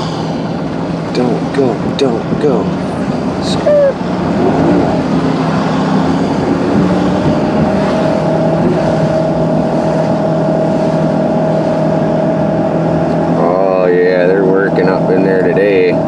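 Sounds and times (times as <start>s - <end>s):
car engine and road hum: 0.0s - 16.0s.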